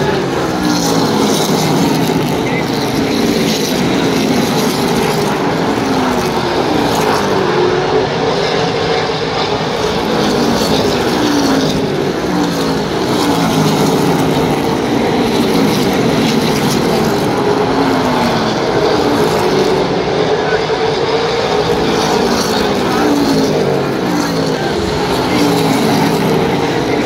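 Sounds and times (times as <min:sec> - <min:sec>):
race car engines running hard: 0:00.0 - 0:27.0.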